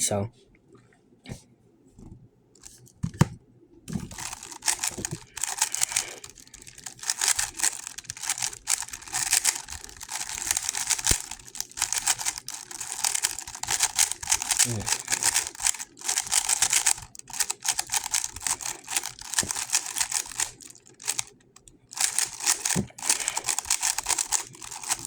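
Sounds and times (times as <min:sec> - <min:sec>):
speedcube clicking turns: 0:03.9 - 0:25.0.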